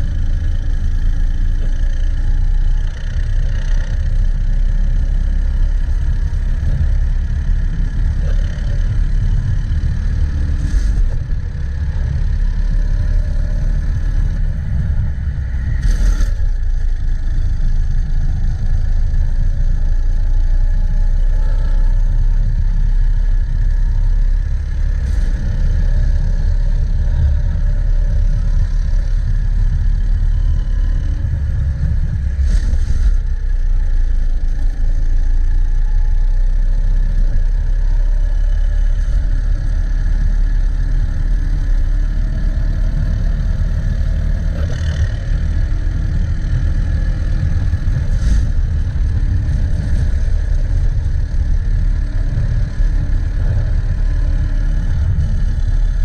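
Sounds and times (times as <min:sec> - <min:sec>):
kart engine running hard: 0:00.0 - 0:56.0
low rumble: 0:00.0 - 0:56.0.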